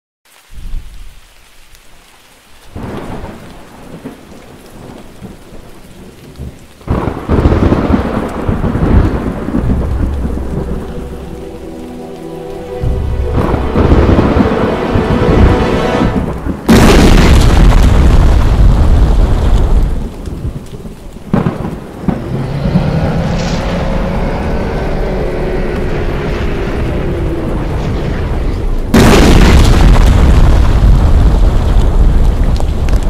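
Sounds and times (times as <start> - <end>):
rain: 0.2 - 33.0
rolling thunder: 2.8 - 33.0.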